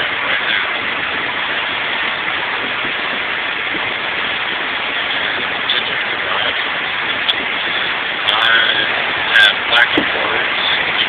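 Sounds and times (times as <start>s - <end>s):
road and wind noise in car cabin: 0.0s - 11.0s.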